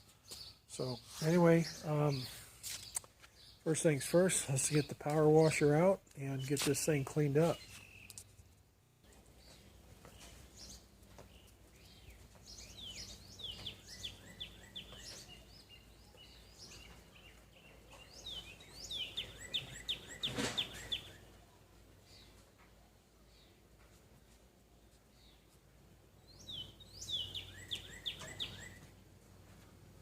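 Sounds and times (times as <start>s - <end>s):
birds chirping: 0.0s - 23.7s, 24.8s - 29.7s.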